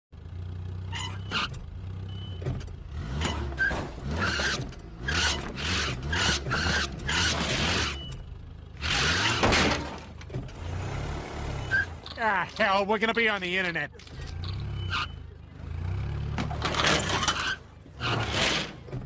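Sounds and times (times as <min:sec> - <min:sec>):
tyres screeching: 0:00.8 - 0:19.0.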